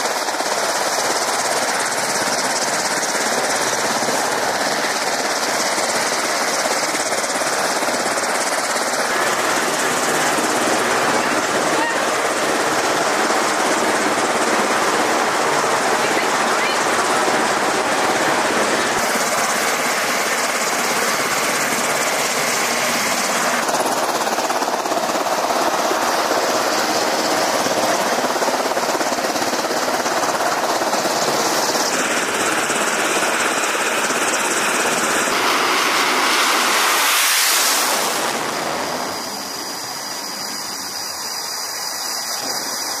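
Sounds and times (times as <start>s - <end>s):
jet engine noise: 0.0s - 43.0s.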